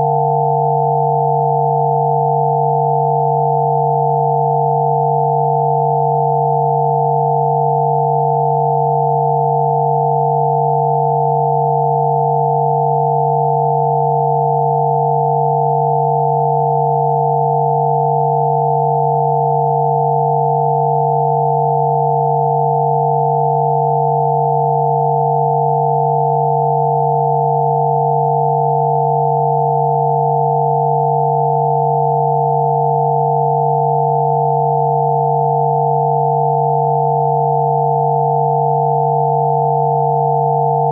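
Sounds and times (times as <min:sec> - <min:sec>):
synthesized sine tones: 0:00.0 - 0:40.9.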